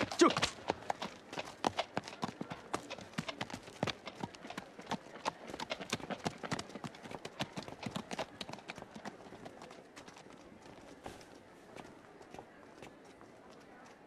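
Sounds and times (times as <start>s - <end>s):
horse hooves on stone street: 0.0s - 14.0s.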